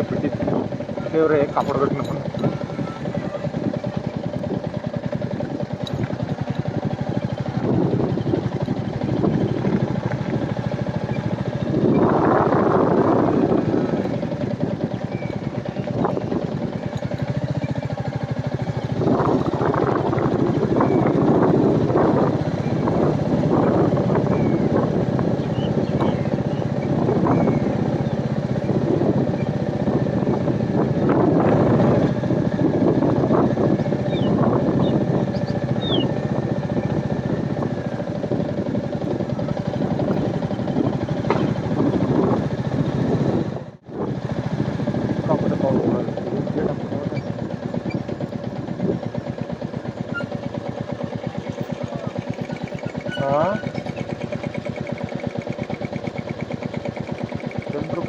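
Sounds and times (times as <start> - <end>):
motorcycle engine running: 0.0 - 58.0
rough off-road noise: 0.0 - 58.0.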